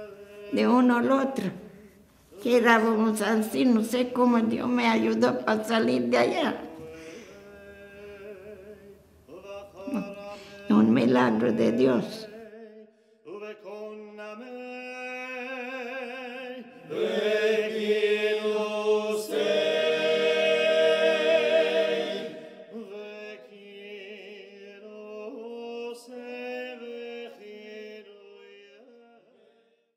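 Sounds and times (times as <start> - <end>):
slow chant-like singing: 0.0 - 0.8, 6.5 - 29.9.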